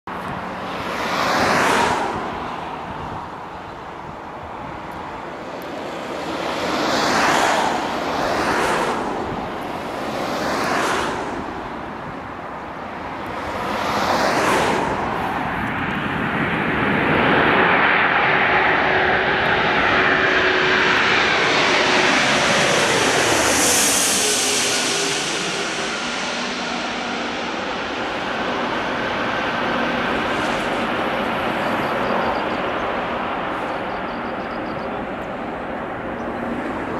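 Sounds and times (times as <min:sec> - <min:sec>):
jet airliner passing overhead: 0:00.1 - 0:36.9
wind gusts on microphone: 0:00.1 - 0:36.9.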